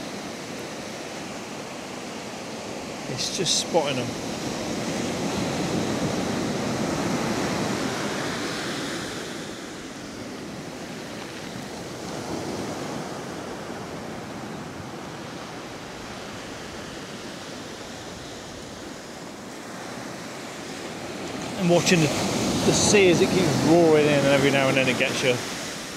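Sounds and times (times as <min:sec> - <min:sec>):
small waves breaking on beach: 0:00.0 - 0:25.9.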